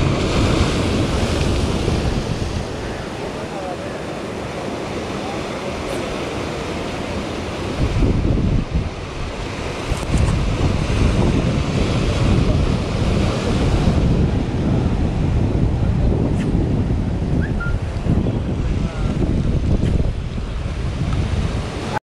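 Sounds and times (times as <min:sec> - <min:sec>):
sea waves washing: 0:00.0 - 0:22.0
wind buffeting microphone: 0:00.0 - 0:22.0.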